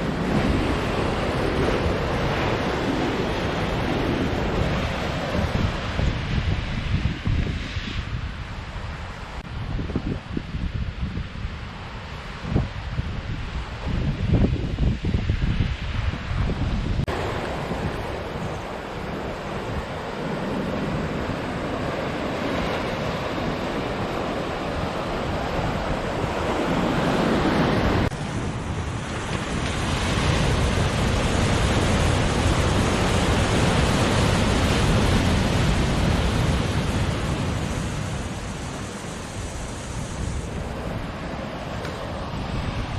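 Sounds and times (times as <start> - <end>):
ocean surf washing ashore: 0.0 - 42.9
wind buffeting microphone: 0.0 - 42.9.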